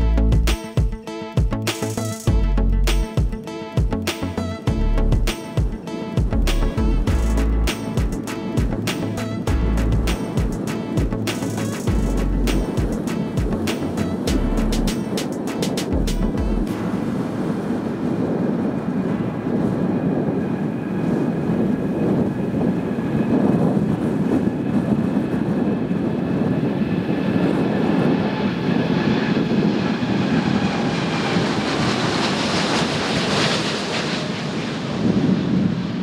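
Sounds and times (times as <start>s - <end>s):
jet engine roar: 5.3s - 36.0s.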